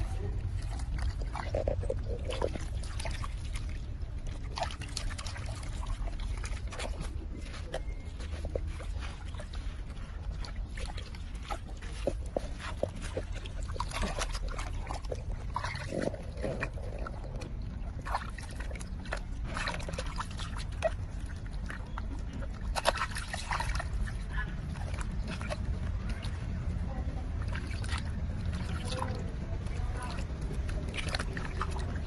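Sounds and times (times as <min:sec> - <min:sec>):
water splashing in plastic basin: 0:00.0 - 0:32.0.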